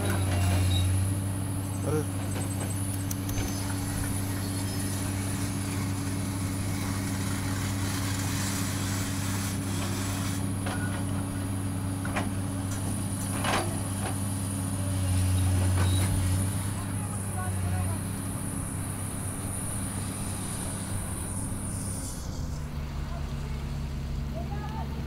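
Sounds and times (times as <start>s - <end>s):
heavy machine engine running: 0.0s - 25.0s.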